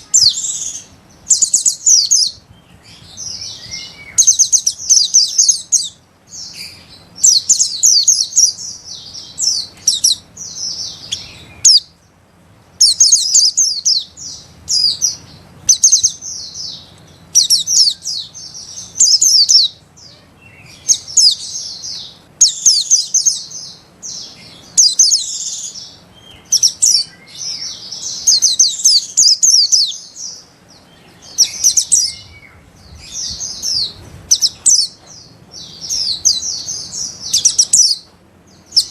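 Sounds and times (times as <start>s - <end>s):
bird twittering: 0.0s - 12.1s, 12.8s - 38.9s.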